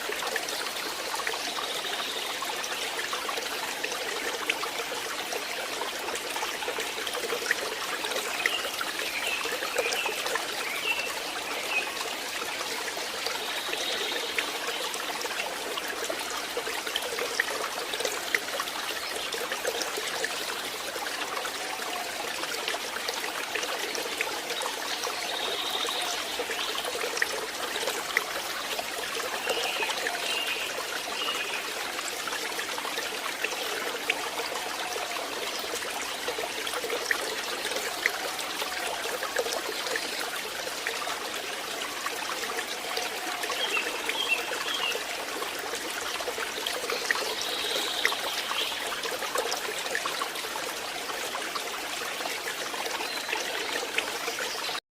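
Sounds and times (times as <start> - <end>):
stream trickling over stones: 0.0 - 54.8.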